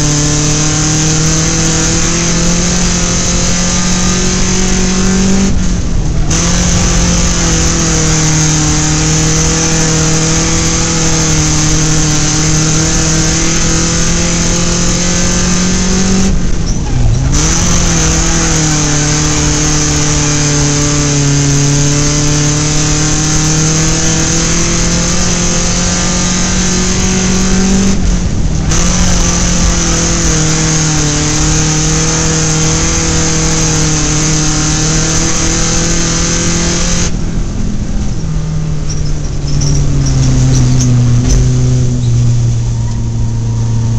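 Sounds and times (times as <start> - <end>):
race car engine at high revs: 0.0 - 43.9.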